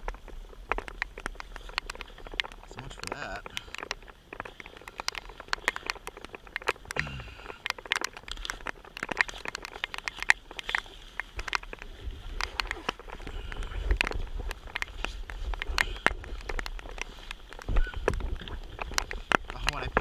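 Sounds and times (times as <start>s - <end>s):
low wind rumble: 0.0s - 20.0s
raindrops tapping: 0.0s - 20.0s.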